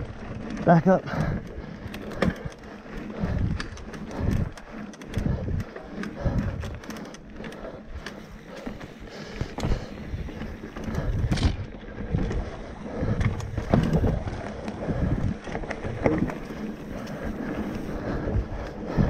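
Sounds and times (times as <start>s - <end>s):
bike knocks and rattles: 0.0s - 17.8s
wind buffeting microphone: 1.1s - 6.9s, 7.9s - 19.0s.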